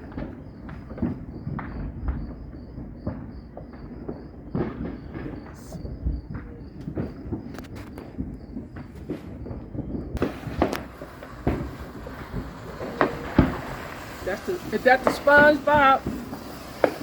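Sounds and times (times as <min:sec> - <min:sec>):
fireworks popping and booming: 0:00.0 - 0:17.0.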